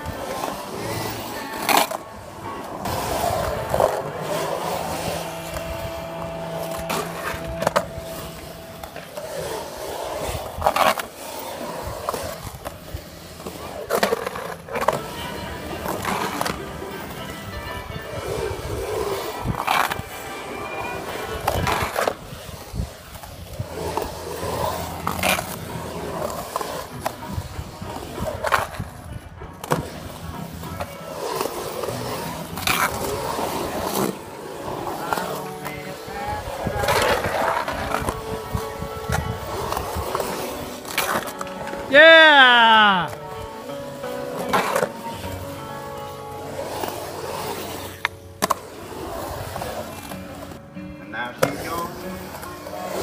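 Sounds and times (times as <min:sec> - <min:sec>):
skateboard clacks: 0:00.0 - 0:42.0, 0:51.4 - 0:53.0
skateboard scrape: 0:00.0 - 0:50.7, 0:51.3 - 0:53.0
skateboard wheels rolling on concrete: 0:00.0 - 0:53.0.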